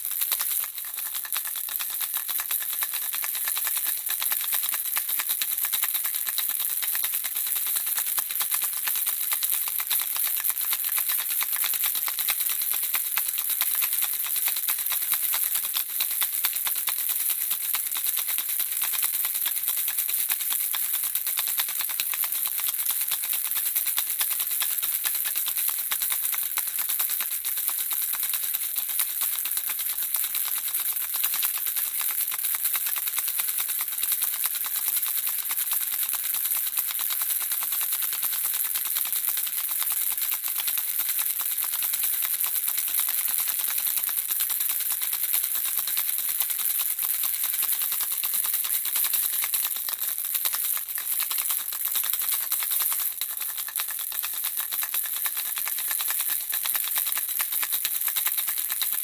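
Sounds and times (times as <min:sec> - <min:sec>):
baby rattle shaking: 0:00.0 - 0:59.0.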